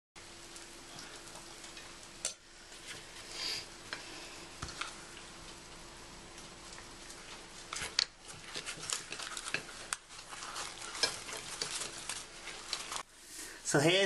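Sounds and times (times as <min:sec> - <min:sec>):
background hiss: 0:00.2 - 0:08.3, 0:08.9 - 0:14.0.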